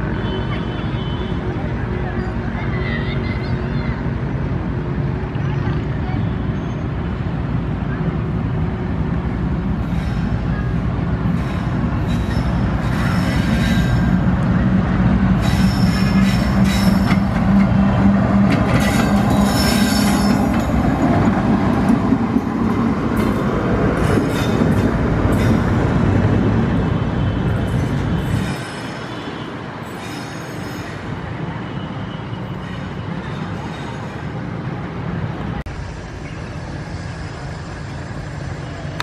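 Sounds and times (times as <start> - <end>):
diesel locomotive engine drone: 0.0 - 39.0
wheels squealing on rails: 5.4 - 39.0.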